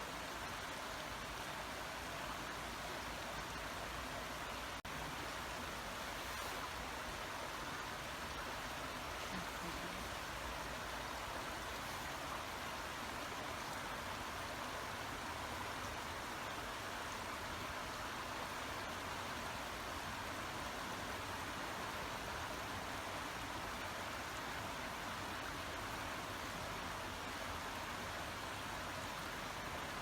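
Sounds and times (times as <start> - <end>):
babbling brook: 0.8 - 30.0.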